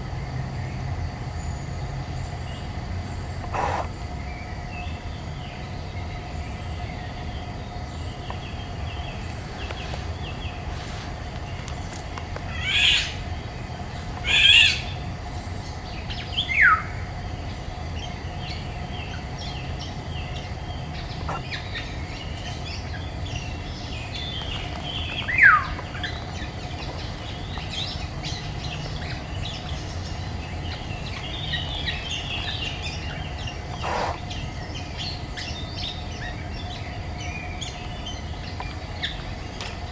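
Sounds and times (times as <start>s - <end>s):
songbirds chirping: 0.0s - 39.9s
harsh bird calls: 0.7s - 11.6s, 12.2s - 39.9s.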